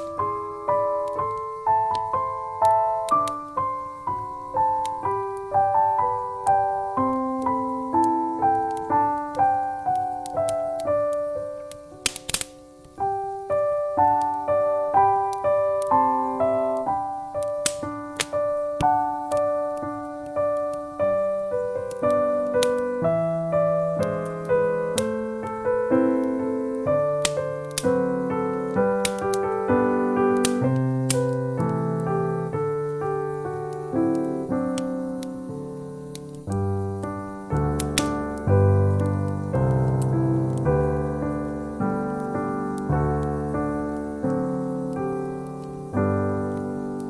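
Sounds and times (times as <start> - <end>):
gentle solo piano melody: 0.0 - 47.0
log fire crackling: 0.0 - 47.0.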